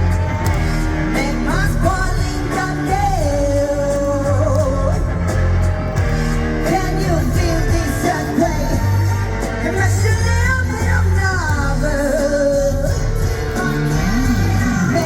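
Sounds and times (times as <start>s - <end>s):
man singing: 0.0s - 5.4s, 6.6s - 15.0s
rock band playing: 0.0s - 15.0s.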